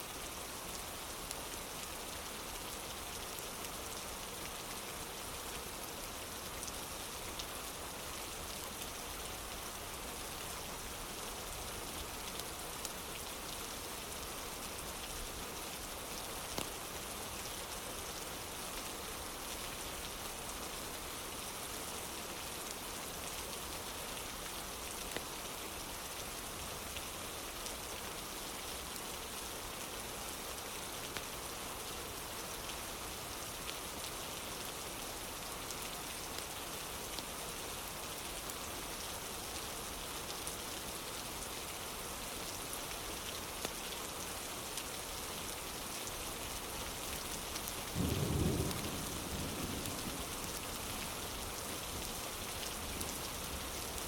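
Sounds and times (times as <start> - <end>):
rain on a wooden porch: 0.0 - 54.0.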